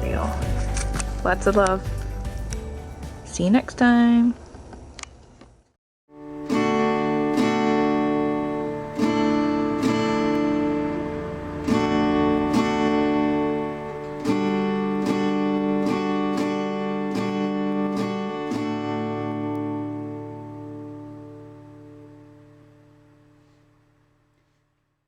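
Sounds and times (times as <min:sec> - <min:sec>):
acoustic guitar strumming chords: 0:00.0 - 0:03.6, 0:06.1 - 0:23.9.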